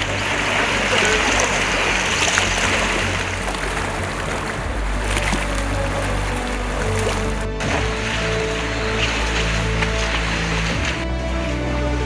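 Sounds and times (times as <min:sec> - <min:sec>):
water splashing and churning: 0:00.0 - 0:12.0.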